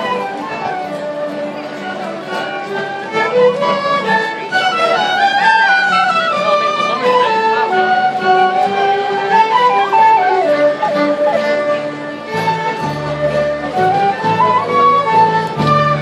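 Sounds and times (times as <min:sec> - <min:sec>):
fiddles and flutes melody: 0:00.0 - 0:16.0
folk band playing: 0:00.0 - 0:16.0.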